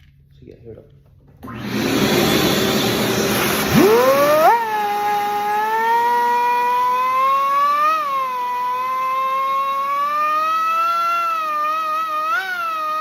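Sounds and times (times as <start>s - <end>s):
small motor whining: 1.4s - 13.0s.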